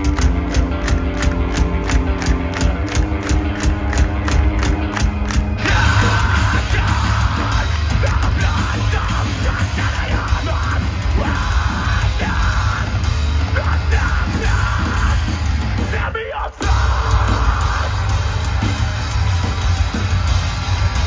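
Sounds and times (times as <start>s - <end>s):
guitars bass and drums: 0.0s - 21.0s.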